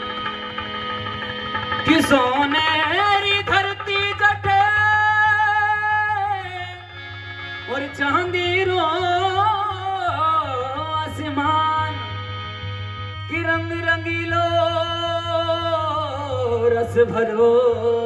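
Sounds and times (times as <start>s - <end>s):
harmonium: 0.0s - 18.0s.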